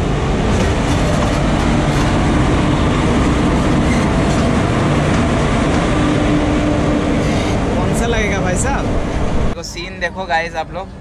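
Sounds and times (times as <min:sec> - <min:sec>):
low locomotive hum: 0:00.0 - 0:11.0
train wheels rumbling on rail: 0:00.0 - 0:11.0.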